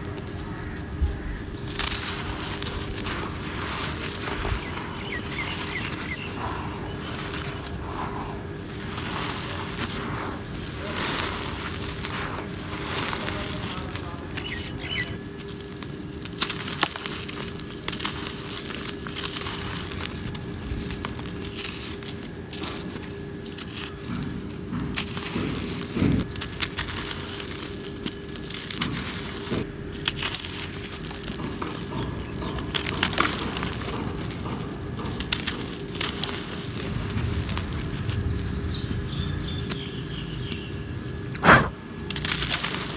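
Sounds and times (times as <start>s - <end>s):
cement lumps cracking: 0.0s - 42.9s
hands crumbling dry cement: 0.0s - 42.9s.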